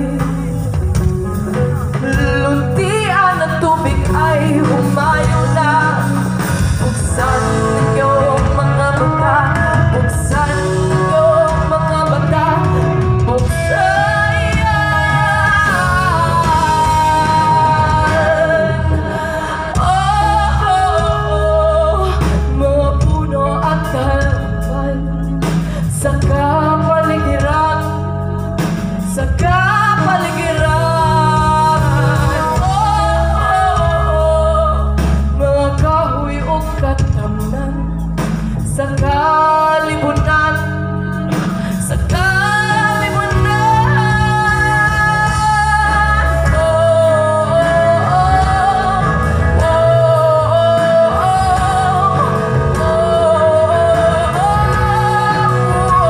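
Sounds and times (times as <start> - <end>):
woman singing with vibrato: 0.0 - 1.0, 1.6 - 56.0
bass guitar: 0.0 - 56.0
drums: 0.0 - 56.0
electric guitar: 0.0 - 56.0.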